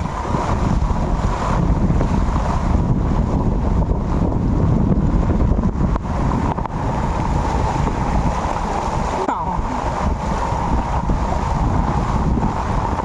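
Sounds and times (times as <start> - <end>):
floodwater churning and splashing: 0.0 - 13.0
wind buffeting microphone: 0.0 - 13.0.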